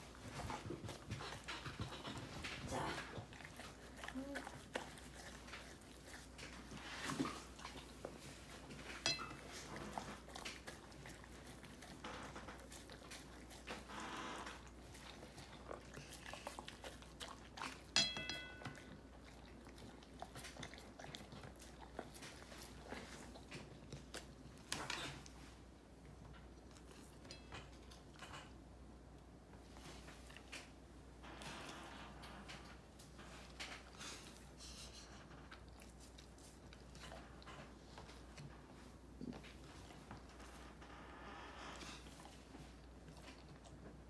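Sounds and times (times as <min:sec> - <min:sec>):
dog chewing and licking: 0:00.0 - 0:28.7, 0:32.5 - 0:40.7, 0:41.8 - 0:44.0.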